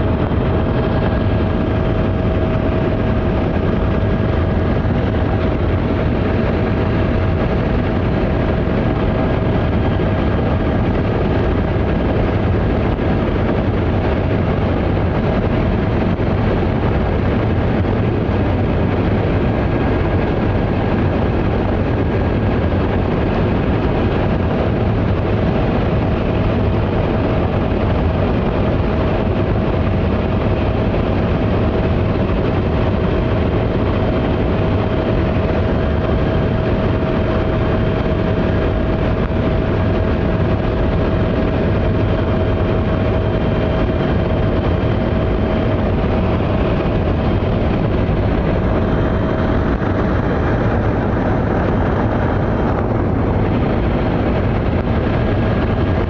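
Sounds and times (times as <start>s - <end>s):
loud engine drone: 0.0s - 56.0s.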